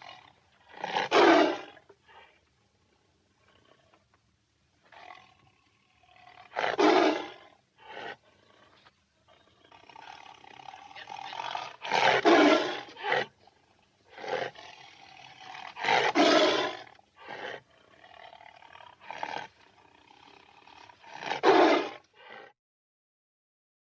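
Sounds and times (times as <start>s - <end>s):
tiger roaring: 0.0s - 2.5s, 4.8s - 22.5s.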